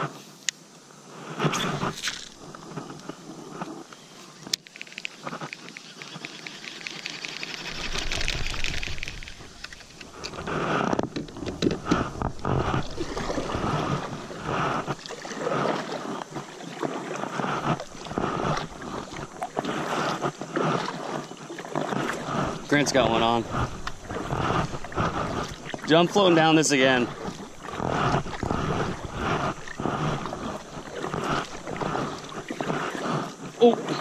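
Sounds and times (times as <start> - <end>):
paddle strokes splashing water: 1.0 - 34.0.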